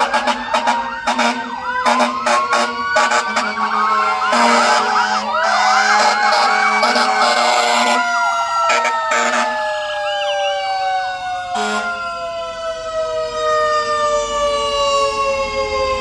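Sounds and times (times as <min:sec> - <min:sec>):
electronic siren warbling: 0:00.0 - 0:16.0
fire truck engine rumble: 0:00.0 - 0:16.0
mechanical siren winding down: 0:00.7 - 0:16.0.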